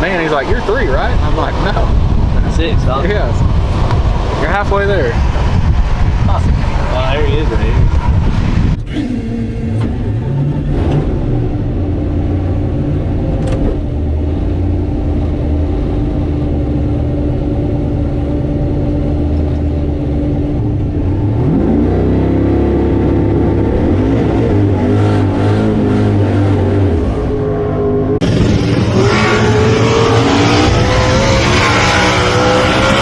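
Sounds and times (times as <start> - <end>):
drag car engine idling and revving: 0.0 - 33.0.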